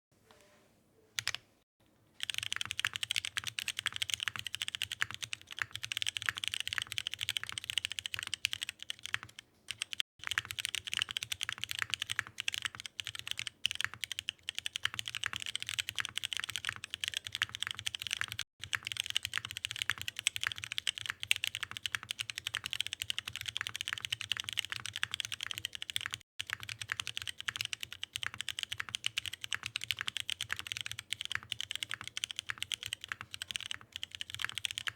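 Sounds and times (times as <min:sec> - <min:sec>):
fast typing on mechanical keyboard: 0:02.2 - 0:34.9.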